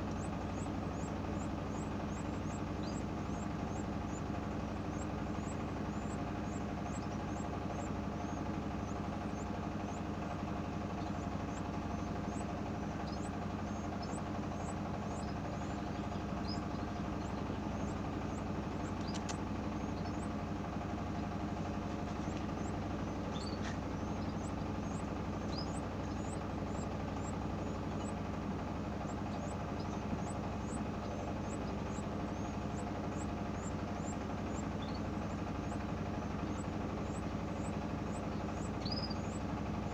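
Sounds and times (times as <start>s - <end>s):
machine hum: 0.0s - 39.9s
small birds chirping: 0.0s - 39.9s.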